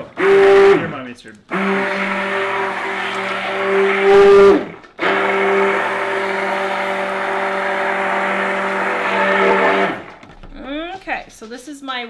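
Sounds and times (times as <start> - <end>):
stick blender motor hum: 0.0 - 10.8.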